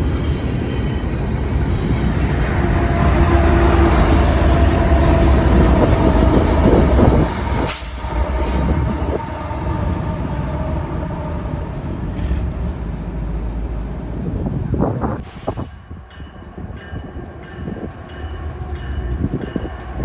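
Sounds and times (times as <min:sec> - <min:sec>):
train engine tone: 0:00.0 - 0:20.0
train passing rumble: 0:00.0 - 0:20.0.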